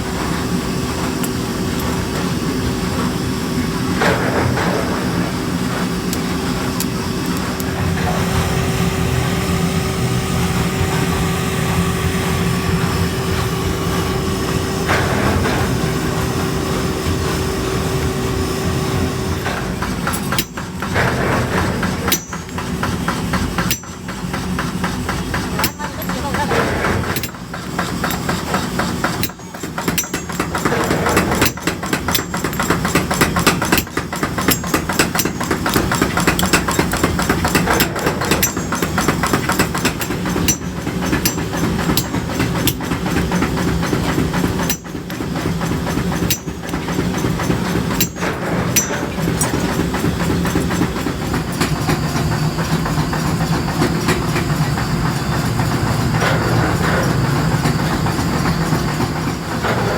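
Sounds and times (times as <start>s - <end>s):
workshop machinery rattling: 0.0s - 59.9s.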